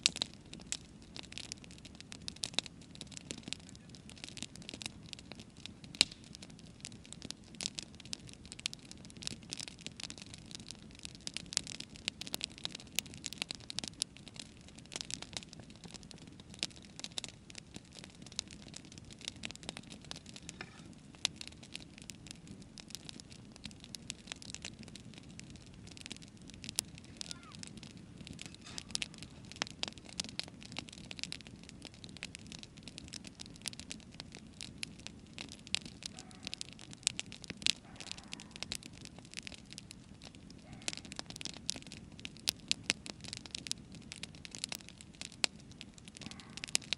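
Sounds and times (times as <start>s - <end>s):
campfire crackling and popping: 0.0s - 46.9s
low steady fire rumble: 0.0s - 46.9s.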